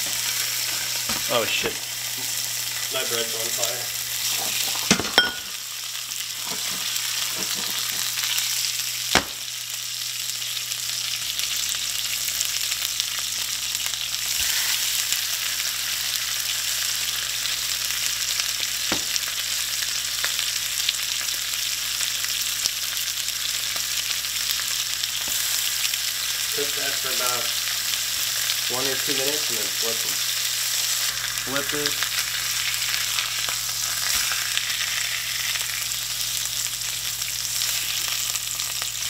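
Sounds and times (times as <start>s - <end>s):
fish sizzling in hot oil: 0.0s - 39.0s.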